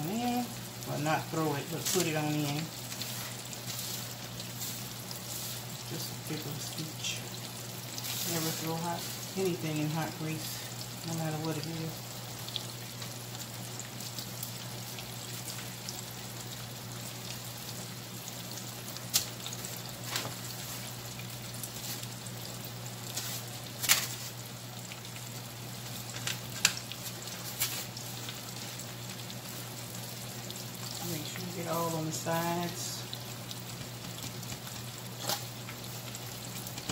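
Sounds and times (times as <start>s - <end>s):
fish frying in hot oil: 0.0s - 36.9s.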